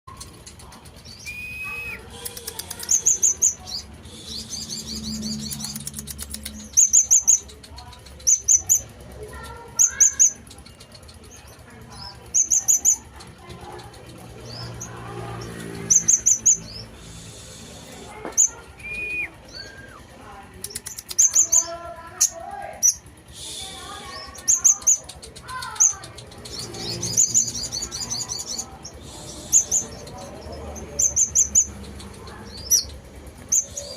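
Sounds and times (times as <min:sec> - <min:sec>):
sunbird singing: 0:00.1 - 0:33.9.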